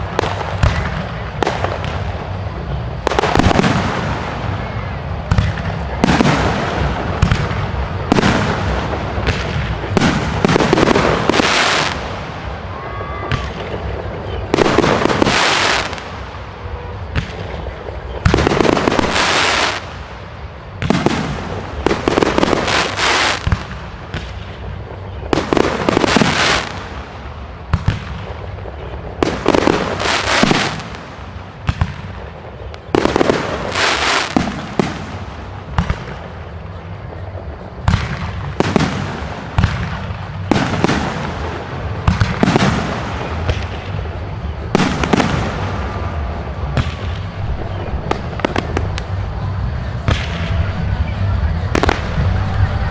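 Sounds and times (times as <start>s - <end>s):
fireworks bangs: 0.0s - 52.9s
fireworks crackling: 0.0s - 52.9s.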